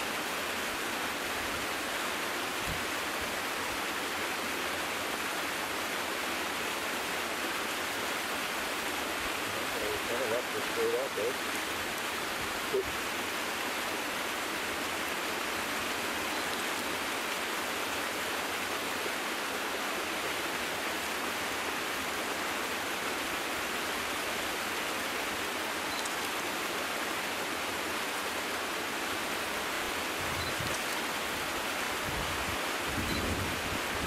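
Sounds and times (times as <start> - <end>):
running water rushing: 0.0 - 34.0.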